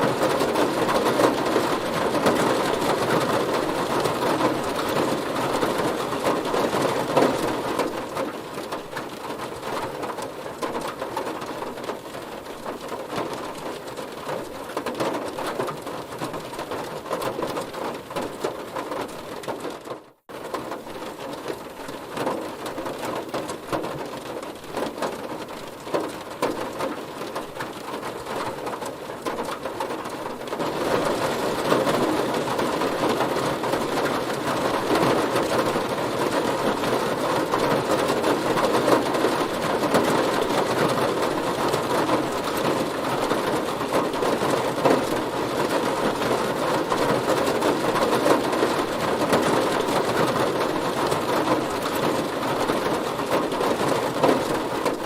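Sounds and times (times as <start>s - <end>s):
heavy rain on a car: 0.0s - 55.0s.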